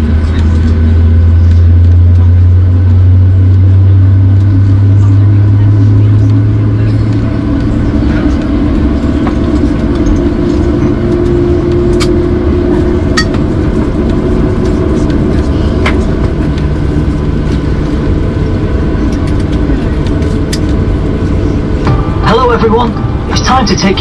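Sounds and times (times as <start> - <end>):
airplane cabin rumble and hum: 0.0 - 24.0.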